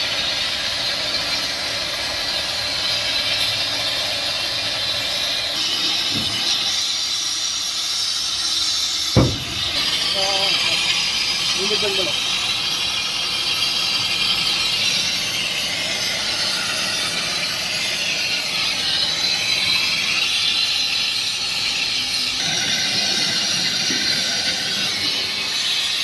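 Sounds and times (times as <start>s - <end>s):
welding arc hissing: 0.0s - 26.0s.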